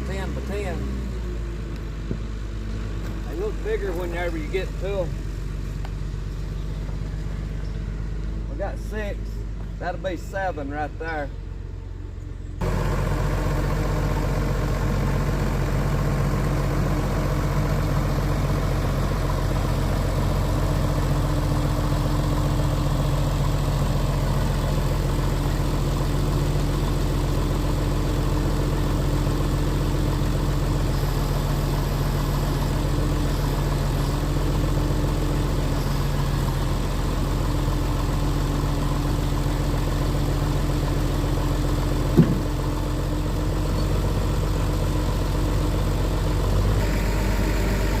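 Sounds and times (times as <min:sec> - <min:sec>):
sawmill engine humming: 0:00.0 - 0:48.0.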